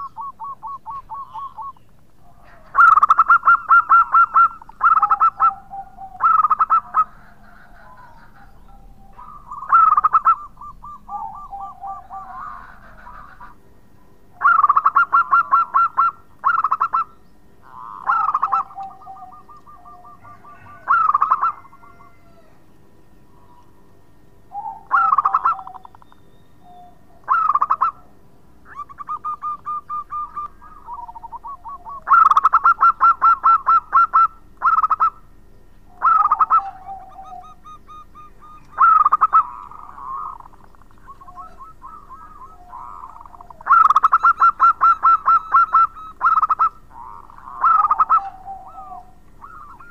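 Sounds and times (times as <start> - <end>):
dove cooing: 0.0 - 22.6, 23.3 - 49.9
soft rolling bird trills: 0.0 - 49.9.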